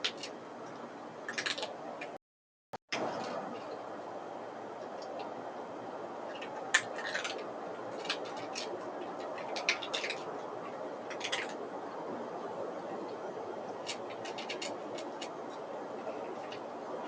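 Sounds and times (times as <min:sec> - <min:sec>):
steady background hiss: 0:03.0 - 0:17.0.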